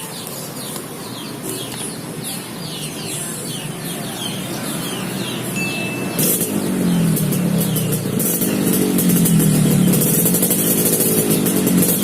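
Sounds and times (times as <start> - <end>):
birds chirping falling notes: 0.0 - 12.0.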